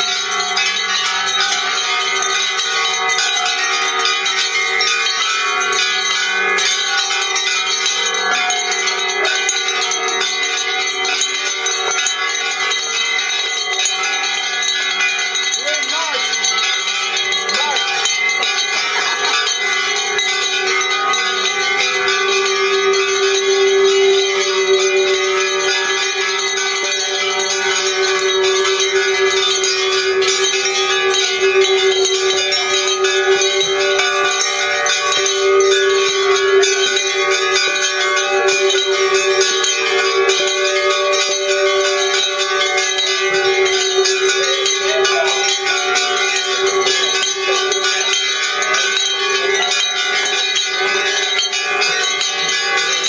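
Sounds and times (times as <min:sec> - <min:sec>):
low bell tone ringing: 0:00.0 - 0:53.0
many bells clanging: 0:00.0 - 0:53.0.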